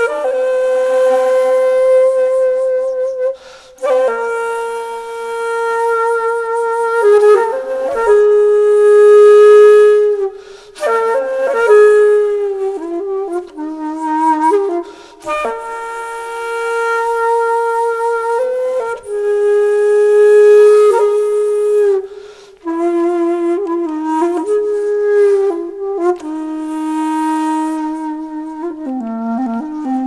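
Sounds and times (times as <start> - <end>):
breathy flute melody: 0.0 - 30.0.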